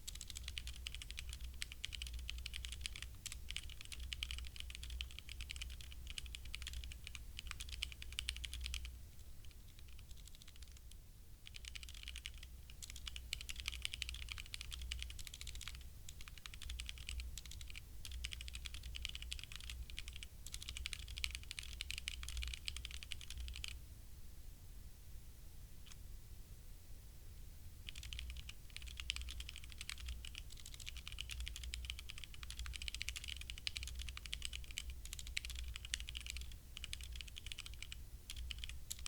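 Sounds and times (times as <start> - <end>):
mechanical keyboard typing: 0.0 - 23.8, 27.8 - 39.0.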